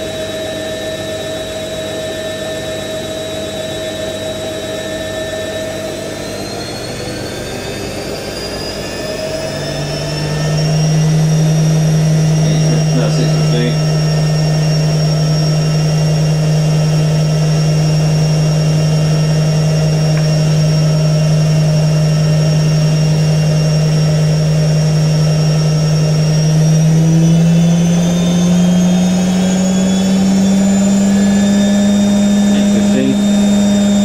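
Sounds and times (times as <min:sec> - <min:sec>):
washing machine spinning: 0:00.0 - 0:34.0.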